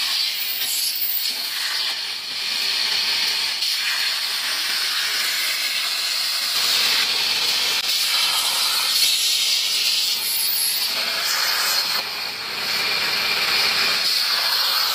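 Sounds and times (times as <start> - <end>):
plasma torch cutting metal: 0.0 - 14.9.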